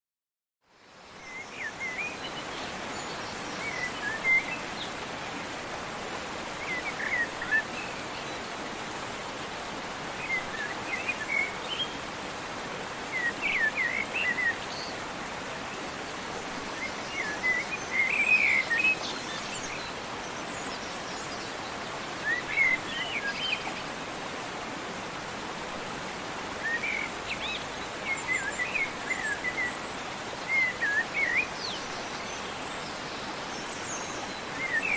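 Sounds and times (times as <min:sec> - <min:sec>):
songbirds chirping: 0:00.7 - 0:34.9
waterfall rushing: 0:01.0 - 0:34.9.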